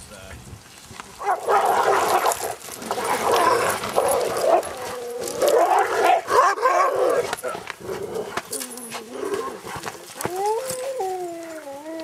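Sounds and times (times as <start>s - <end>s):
sled dogs barking and yelping: 1.1s - 12.0s.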